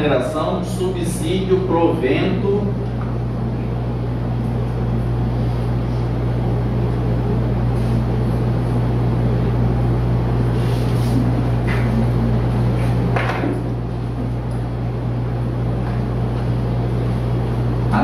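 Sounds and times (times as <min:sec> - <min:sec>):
air conditioner running: 0:00.0 - 0:18.0.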